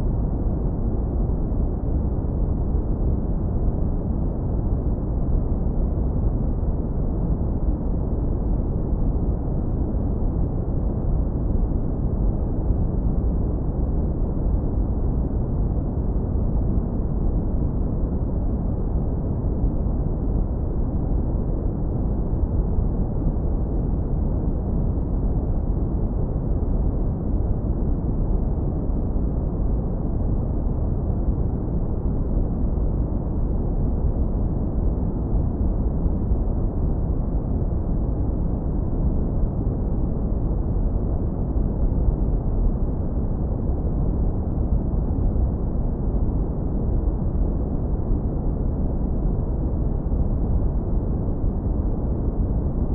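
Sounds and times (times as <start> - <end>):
deep brown noise rumble: 0.0 - 52.9.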